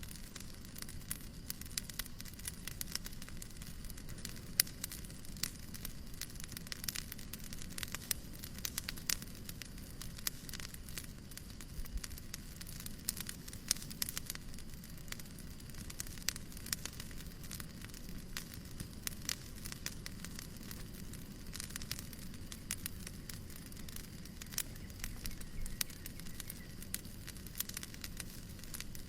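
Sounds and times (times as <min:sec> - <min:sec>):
fireplace crackling: 0:00.0 - 0:29.0.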